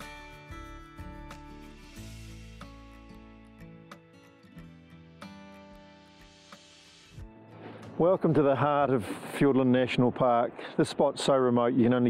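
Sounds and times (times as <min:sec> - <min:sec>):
soft plucked guitar music: 0:00.0 - 0:10.1.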